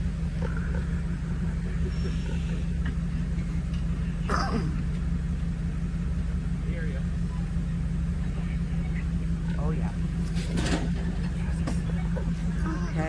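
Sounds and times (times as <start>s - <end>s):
car engine droning at low speed: 0.0s - 13.0s.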